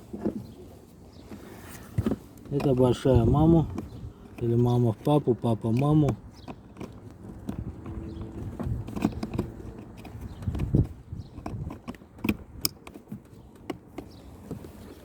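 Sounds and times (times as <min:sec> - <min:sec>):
plastic trim panel clicks and knocks: 0:02.0 - 0:14.7.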